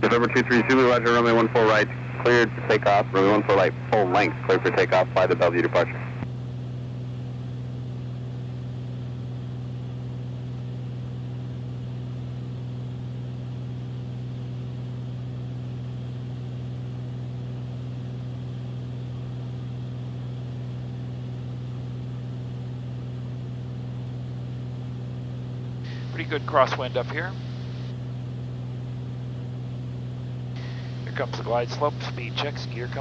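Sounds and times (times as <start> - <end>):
airplane engine drone in cockpit: 0.0 - 33.0.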